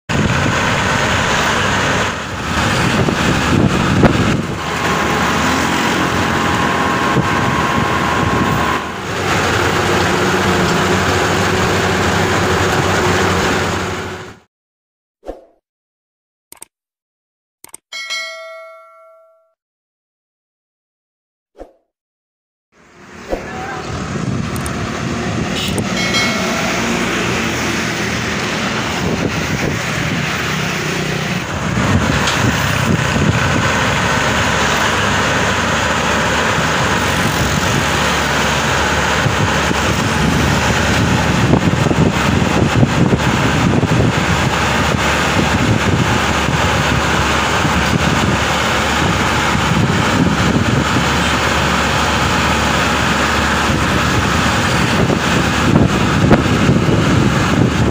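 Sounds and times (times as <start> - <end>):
diesel engine running: 0.1 - 14.5, 22.8 - 57.9.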